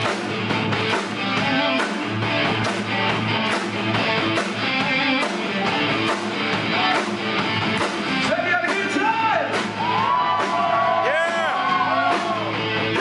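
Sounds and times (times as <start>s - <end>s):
bass guitar: 0.0s - 13.0s
drums with a steady beat: 0.0s - 13.0s
electric guitars: 0.0s - 13.0s.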